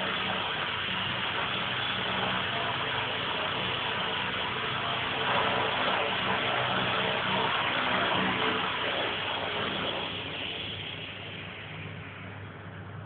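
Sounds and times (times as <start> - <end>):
rc helicopter motor whine: 0.0 - 12.6.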